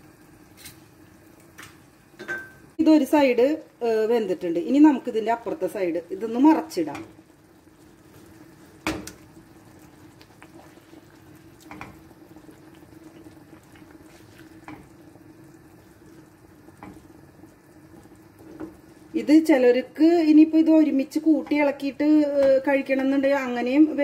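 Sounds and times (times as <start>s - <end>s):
gravy simmering in a pan: 0.0s - 24.0s.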